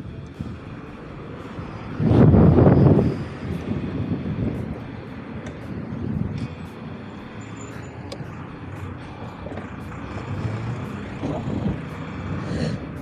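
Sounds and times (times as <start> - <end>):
road traffic: 0.0 - 13.0
wind and road noise: 0.0 - 13.0.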